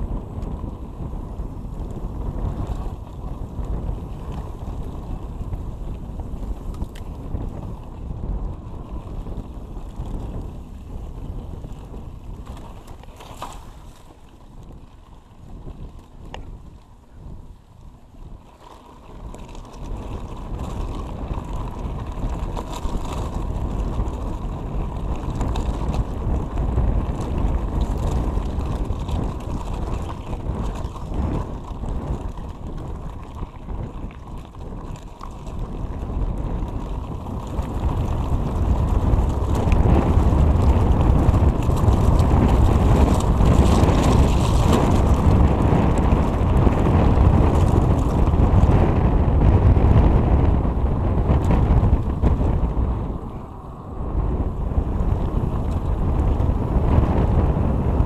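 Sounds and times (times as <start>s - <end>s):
bike rattling over gravel: 0.0s - 58.0s
wind buffeting microphone: 0.0s - 58.0s.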